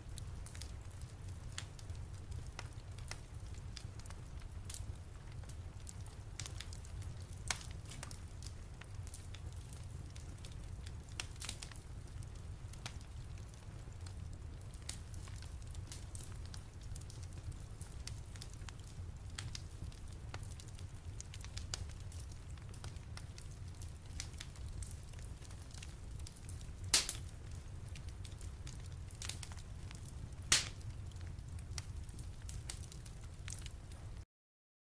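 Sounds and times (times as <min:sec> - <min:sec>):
low rumble of fire: 0:00.0 - 0:34.2
wood fire crackling: 0:00.0 - 0:34.2
fire pops: 0:00.1 - 0:12.2, 0:12.8 - 0:34.1.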